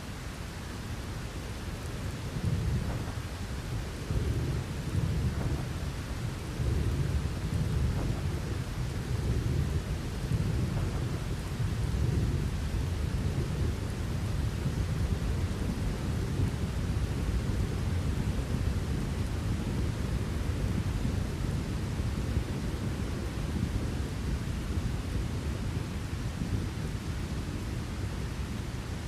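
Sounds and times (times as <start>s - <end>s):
rain hissing: 0.0s - 29.0s
thunder rumbling: 0.9s - 29.0s.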